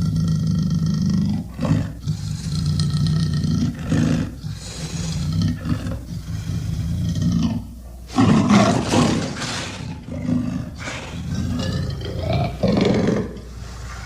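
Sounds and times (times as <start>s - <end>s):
rough throaty creature growl: 0.0s - 13.5s.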